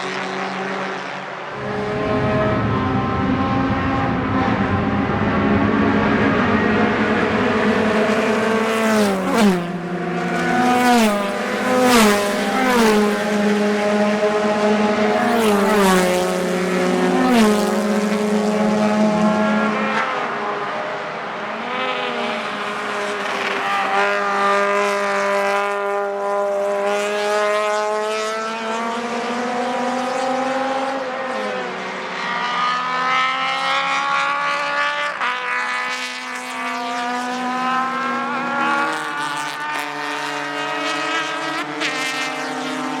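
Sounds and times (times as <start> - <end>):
racing car engines: 0.0 - 43.0.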